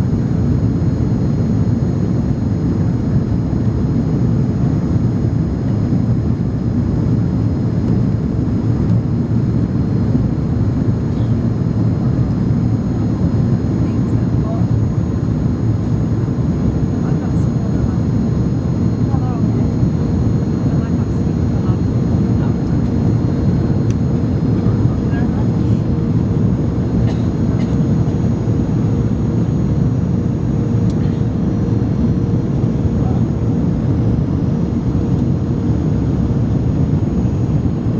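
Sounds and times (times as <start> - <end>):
jet engines rumbling: 0.0 - 37.9.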